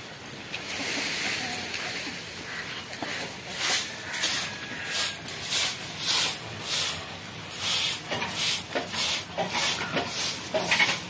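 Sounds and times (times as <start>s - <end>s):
broom sweeping dirt floor: 0.6s - 11.0s.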